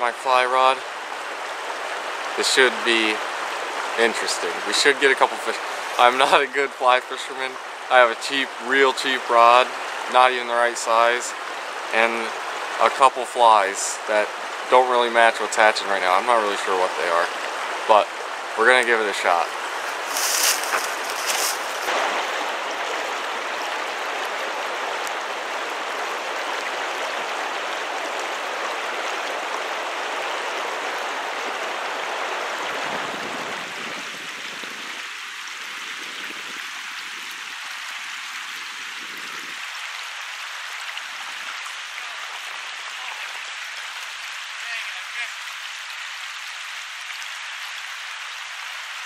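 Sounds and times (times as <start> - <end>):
creek water rushing: 0.0 - 49.0.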